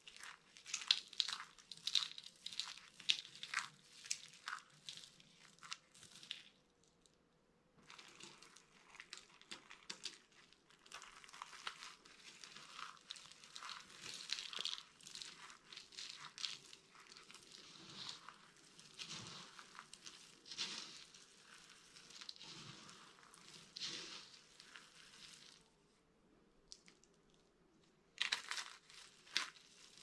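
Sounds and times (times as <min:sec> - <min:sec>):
dry soap crumbling crackles: 0:00.0 - 0:07.2, 0:07.8 - 0:30.0.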